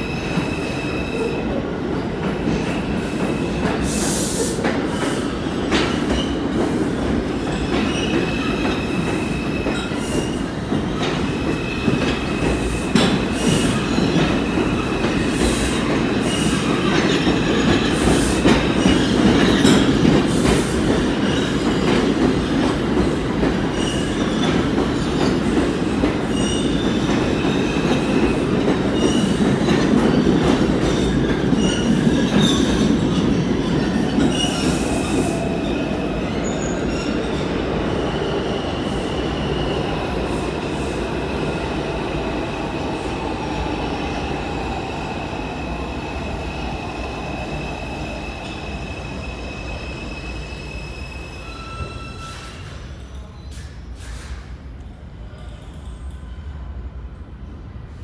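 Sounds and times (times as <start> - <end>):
subway train rumbling: 0.0 - 58.0.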